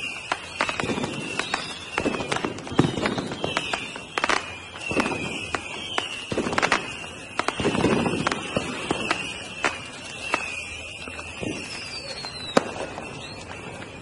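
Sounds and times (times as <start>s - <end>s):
fireworks bangs and crackling pops: 0.0s - 14.0s
wavering high whistle: 0.0s - 14.0s.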